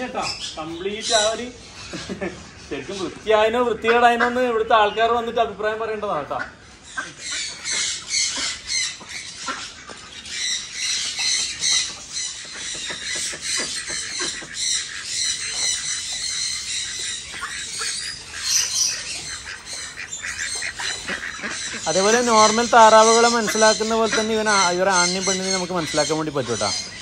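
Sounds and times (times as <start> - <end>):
ducks quacking: 0.0 - 27.0.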